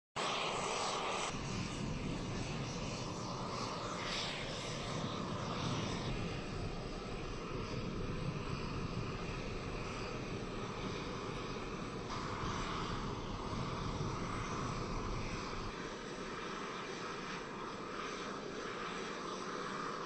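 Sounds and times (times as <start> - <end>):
jet plane engine drone: 0.2 - 20.0.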